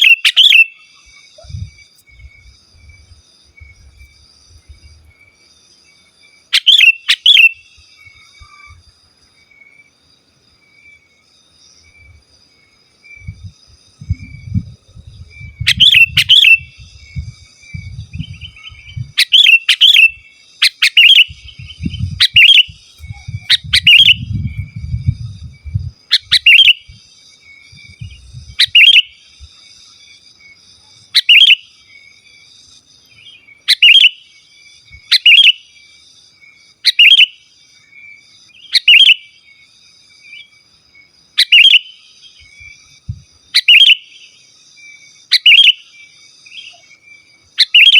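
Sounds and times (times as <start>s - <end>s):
bird chirping: 0.0s - 9.6s, 10.9s - 35.8s, 36.8s - 39.6s, 40.2s - 47.9s.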